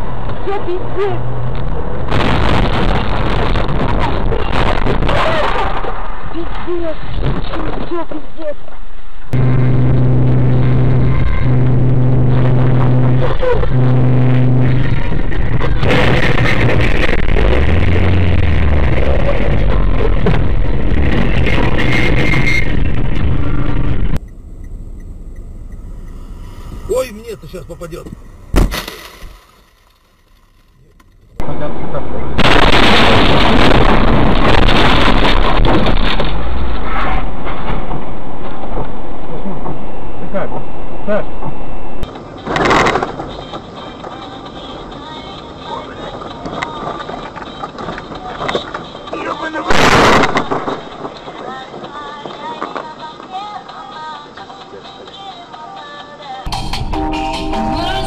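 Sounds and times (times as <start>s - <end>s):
motor vehicle humming: 0.0s - 5.0s, 8.6s - 54.3s
road and wind noise: 0.0s - 58.0s.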